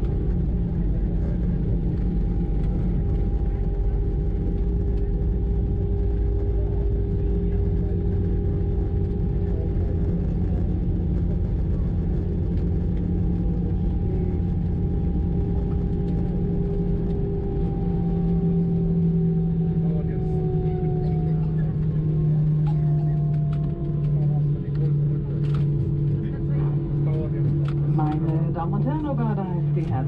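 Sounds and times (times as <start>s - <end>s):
aircraft cabin rumble: 0.0s - 30.0s
engine tones humming: 0.0s - 30.0s.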